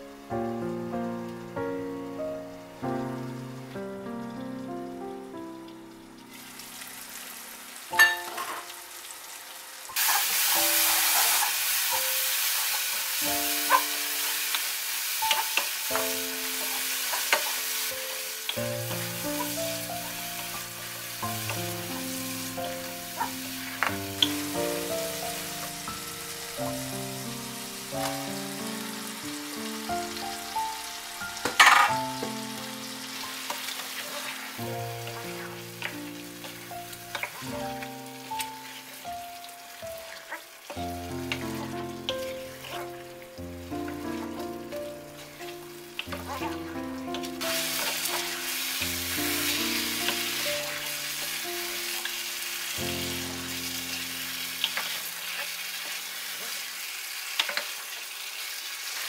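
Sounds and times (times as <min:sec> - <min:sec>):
slow background music: 0:00.0 - 0:09.4, 0:10.0 - 0:55.6
curry sizzling in a pot: 0:00.0 - 0:59.0.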